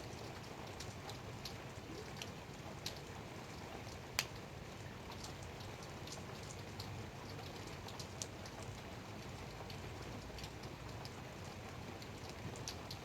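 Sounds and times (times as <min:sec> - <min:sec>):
raindrops striking close by: 0:00.0 - 0:13.0.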